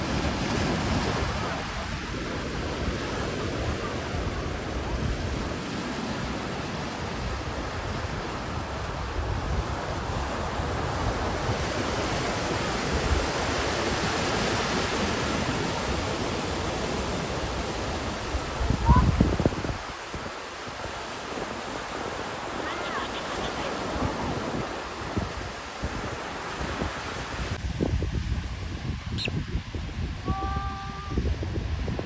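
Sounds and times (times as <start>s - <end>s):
wind rumbling on microphone: 0.0s - 23.0s, 23.6s - 32.0s
ocean surf washing in: 0.0s - 32.0s.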